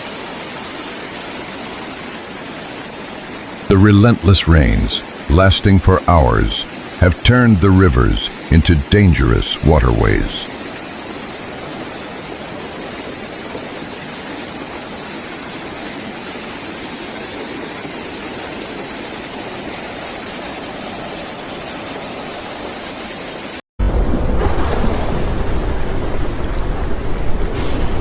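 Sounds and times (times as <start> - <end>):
heavy rain and flood water rushing: 0.0 - 28.0.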